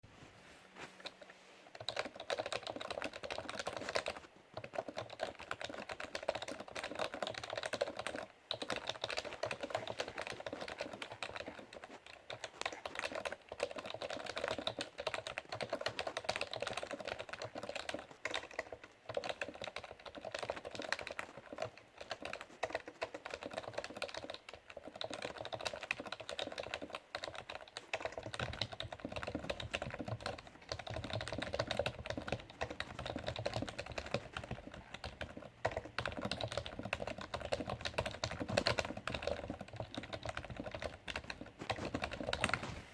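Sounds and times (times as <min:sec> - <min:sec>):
fast typing on a keyboard: 0:01.0 - 0:42.9.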